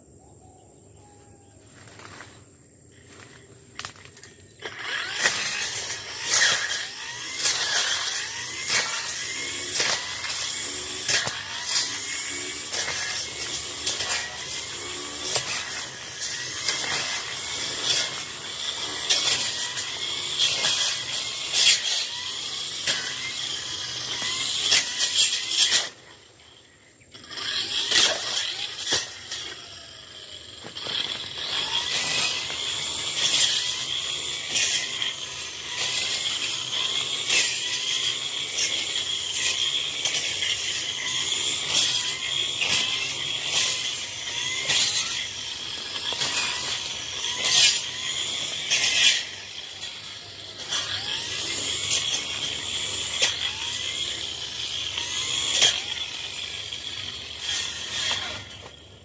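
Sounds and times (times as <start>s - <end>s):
brush cutter whining: 0.5s - 59.0s.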